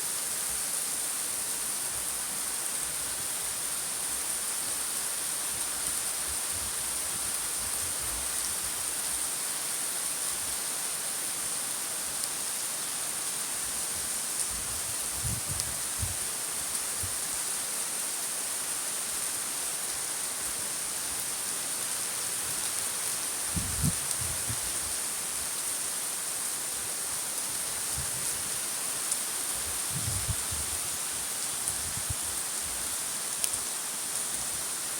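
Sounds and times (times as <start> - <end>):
rain hissing: 0.0 - 34.9.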